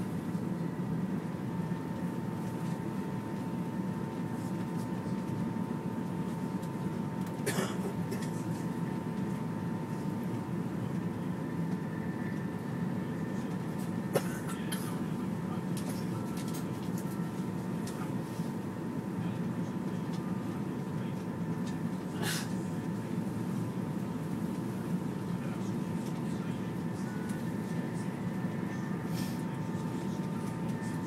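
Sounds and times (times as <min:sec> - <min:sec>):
faint steady whine: 0:00.0 - 0:31.0.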